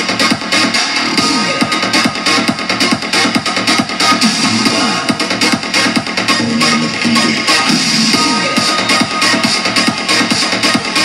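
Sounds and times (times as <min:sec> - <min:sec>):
loud electronic dance music: 0:00.0 - 0:11.0.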